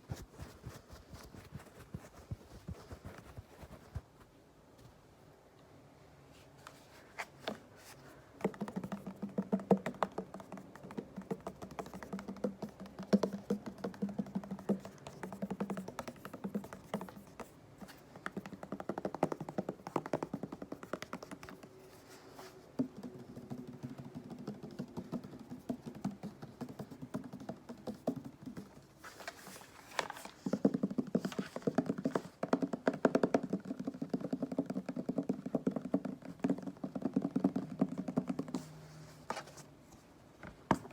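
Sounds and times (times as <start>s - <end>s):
tapping and scratching on sponges: 0.0s - 4.1s, 8.4s - 39.6s.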